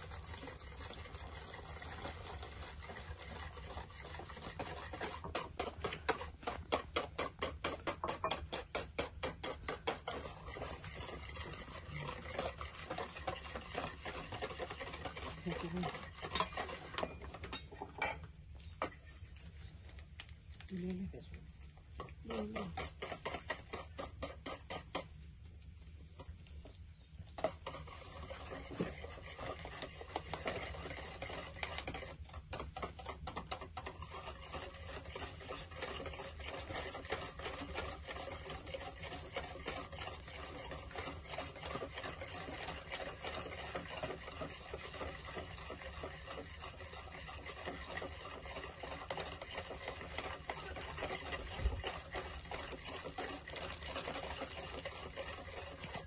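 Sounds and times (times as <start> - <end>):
utensil beating food in a bowl: 0.0 - 56.0.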